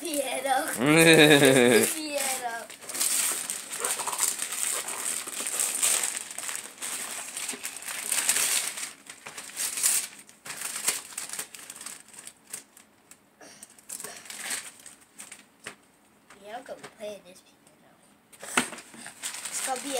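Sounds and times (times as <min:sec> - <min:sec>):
wrapping paper tearing and crumpling: 0:00.0 - 0:15.5, 0:18.4 - 0:19.9.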